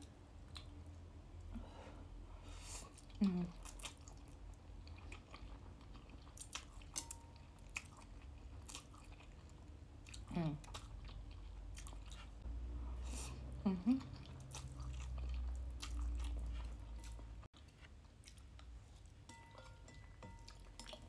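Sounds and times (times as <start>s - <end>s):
person chewing noodles: 2.7s - 21.0s.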